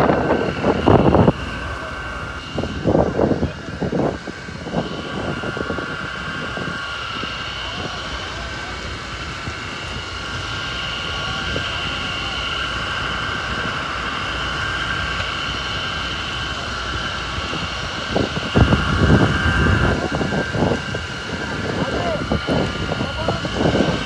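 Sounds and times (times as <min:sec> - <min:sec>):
engine drone with whine: 0:00.0 - 0:24.0
wind buffeting microphone: 0:00.0 - 0:24.0.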